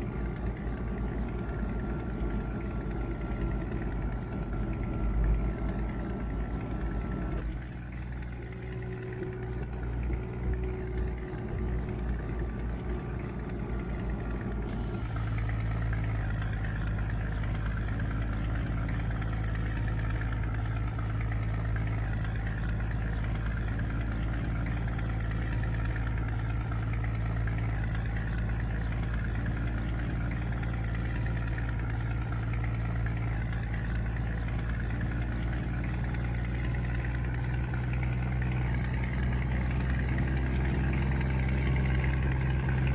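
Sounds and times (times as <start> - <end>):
diesel truck engine humming: 0.0 - 42.9.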